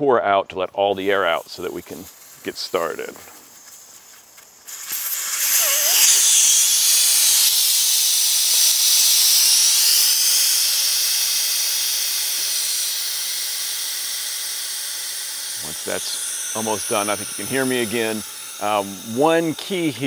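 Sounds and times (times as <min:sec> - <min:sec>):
air hissing from tire valve: 0:01.0 - 0:20.0.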